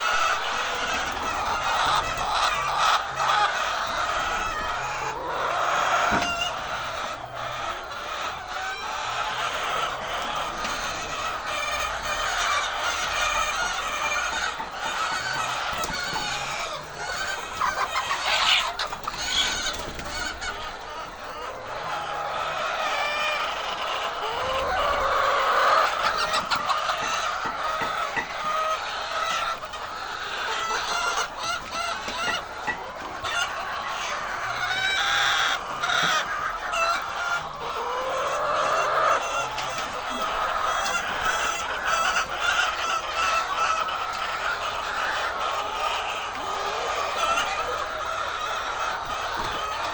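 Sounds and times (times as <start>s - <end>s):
chickens clucking and calling: 0.0s - 49.9s.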